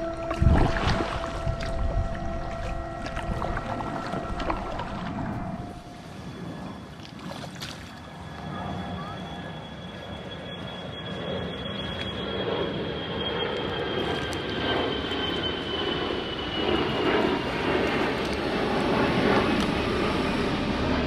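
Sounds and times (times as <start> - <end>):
jet airliner passing overhead: 0.0 - 21.0.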